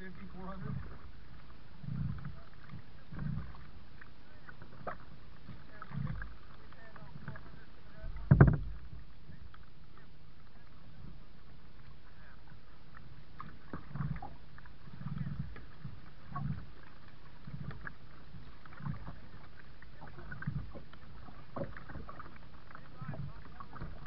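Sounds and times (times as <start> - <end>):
kayak paddle strokes in water: 0.0 - 24.0
water drips and splashes: 0.0 - 24.0.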